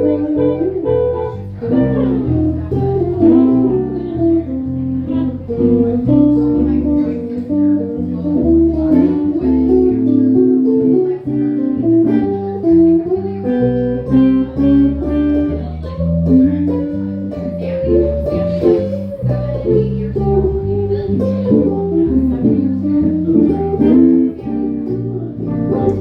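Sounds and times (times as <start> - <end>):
low bass notes: 0.0 - 26.0
plucked guitar notes: 0.0 - 26.0.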